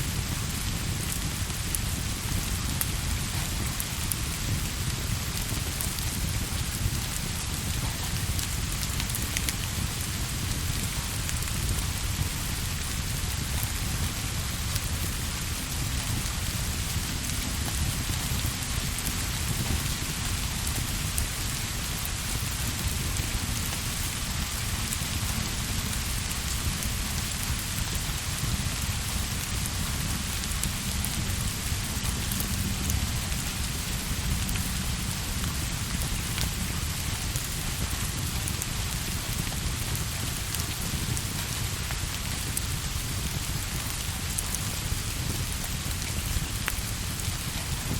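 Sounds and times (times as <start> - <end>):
steady rain: 0.0 - 47.9.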